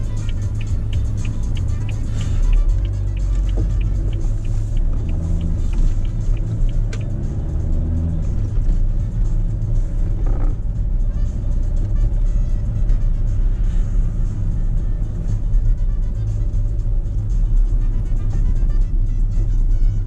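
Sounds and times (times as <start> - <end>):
car engine droning: 0.0 - 20.0
turn signal ticking: 0.0 - 20.0
tyre road noise: 0.0 - 20.0.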